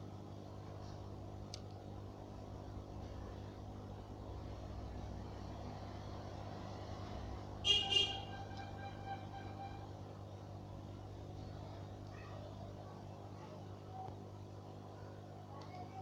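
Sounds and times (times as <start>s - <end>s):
aquarium pump humming: 0.0s - 16.0s.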